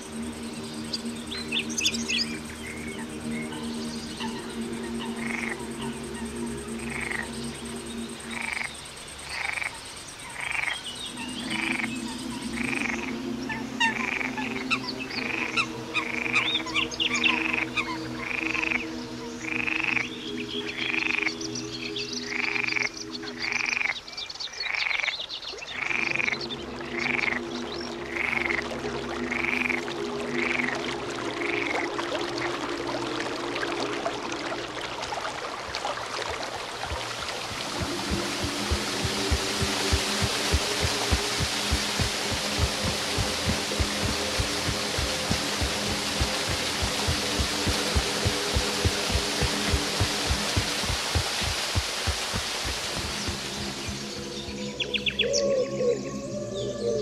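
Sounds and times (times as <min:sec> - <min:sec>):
slow sustained chords music: 0:00.0 - 0:57.0.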